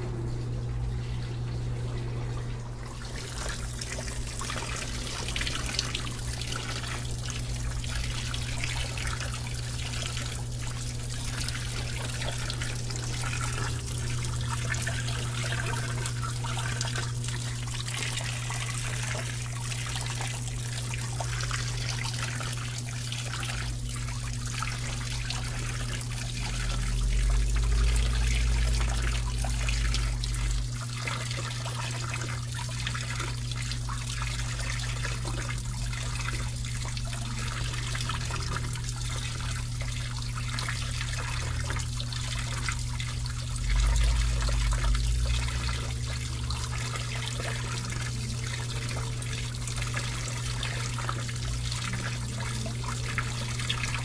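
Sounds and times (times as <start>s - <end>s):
washing machine low hum: 0.0s - 54.0s.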